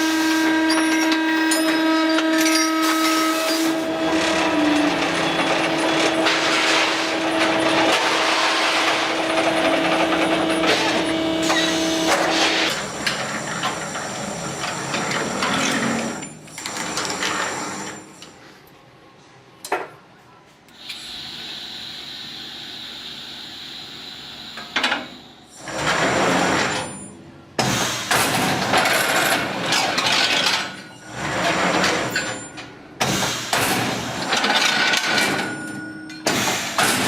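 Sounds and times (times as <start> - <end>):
machine motor hum with clatter: 0.0 - 18.4, 20.7 - 37.0.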